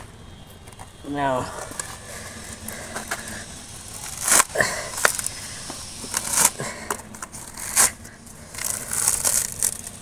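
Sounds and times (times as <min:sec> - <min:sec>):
coconut husk ripping: 0:01.6 - 0:10.0.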